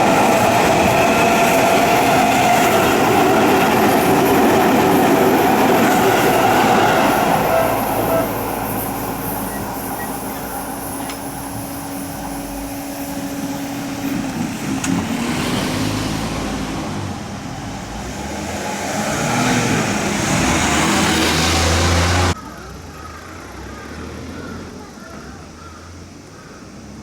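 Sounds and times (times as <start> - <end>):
road vehicle passing: 0.0 - 22.4.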